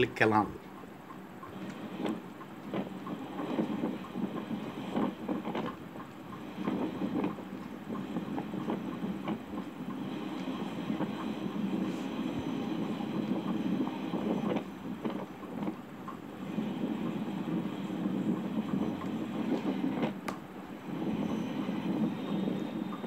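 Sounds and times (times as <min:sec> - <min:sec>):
track clicks and clacks: 0:00.0 - 0:23.0
train wheels rumbling on rails: 0:00.0 - 0:23.0.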